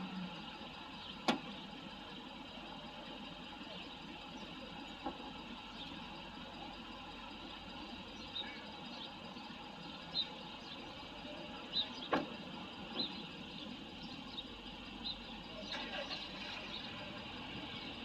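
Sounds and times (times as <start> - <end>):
engine-like rumble: 0.0 - 18.0.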